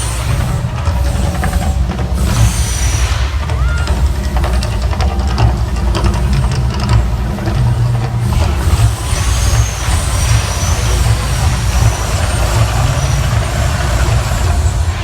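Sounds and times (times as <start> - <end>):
rushing hiss: 0.0 - 7.0, 8.2 - 15.0
deep rumble: 0.0 - 15.0.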